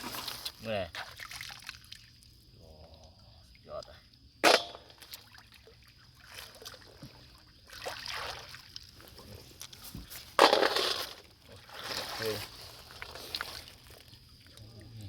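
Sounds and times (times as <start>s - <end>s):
river water sloshing: 0.0s - 2.5s, 4.4s - 15.0s.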